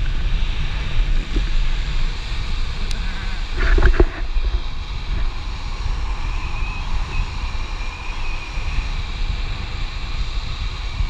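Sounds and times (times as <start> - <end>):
longboard wheels rolling on asphalt: 0.0 - 11.0
wind buffeting microphone: 0.0 - 11.0.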